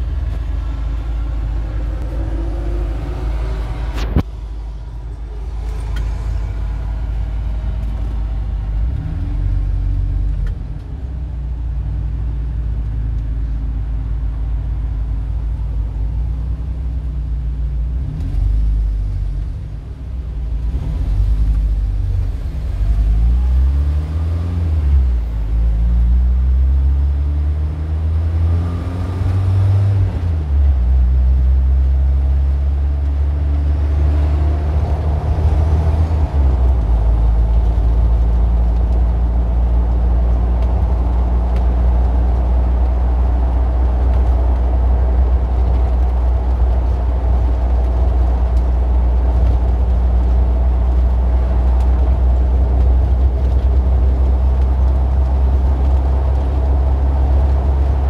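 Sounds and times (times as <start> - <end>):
car engine revving: 0.0 - 10.5, 20.6 - 58.0.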